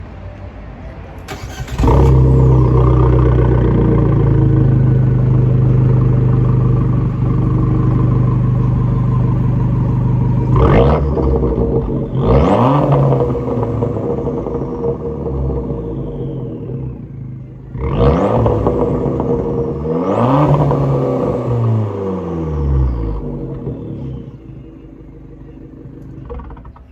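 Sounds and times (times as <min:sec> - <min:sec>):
car engine starting and idling: 0:01.0 - 0:26.9
engine revving: 0:01.3 - 0:24.8.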